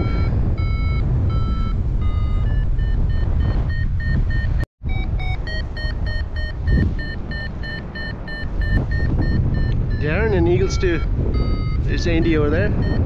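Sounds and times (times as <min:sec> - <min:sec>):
variometer beeping in quick pulses: 0:00.0 - 0:11.8, 0:12.7 - 0:13.0
wind rush on microphone: 0:00.0 - 0:13.0.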